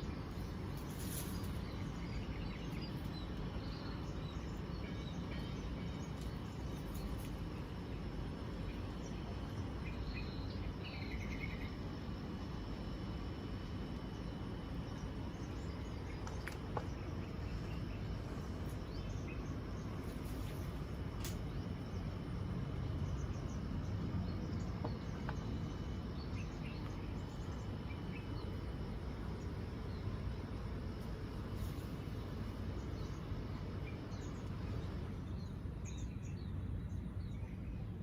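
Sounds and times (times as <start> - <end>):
faint insect drone: 0.0 - 38.0.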